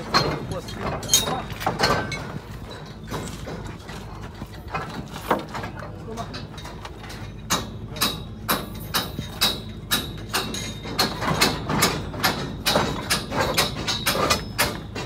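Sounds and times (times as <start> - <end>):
metal clicks and knocks of scaffold tubes: 0.0 - 15.0.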